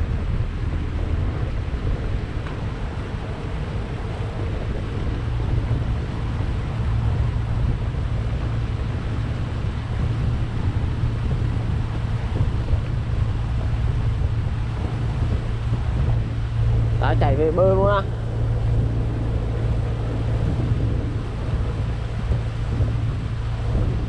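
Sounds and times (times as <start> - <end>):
boat engine droning: 0.0 - 24.0
wind buffeting microphone: 0.0 - 24.0.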